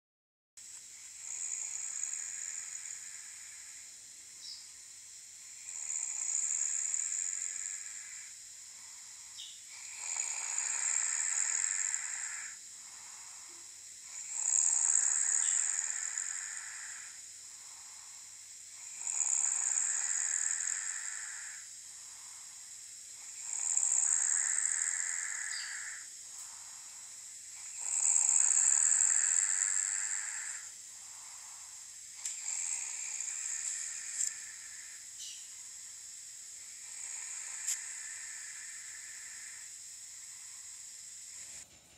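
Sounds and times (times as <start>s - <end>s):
guinea pig snoring: 0.6s - 41.9s.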